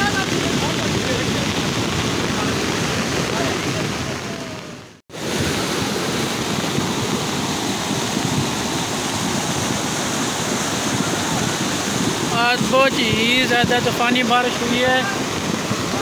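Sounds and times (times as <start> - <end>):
flood water roaring: 0.0 - 16.0.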